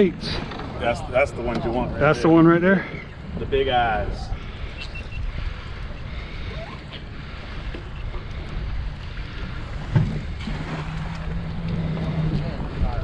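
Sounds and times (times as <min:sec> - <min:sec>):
water lapping against hull: 0:00.0 - 0:13.0
wind buffeting microphone: 0:00.0 - 0:13.0.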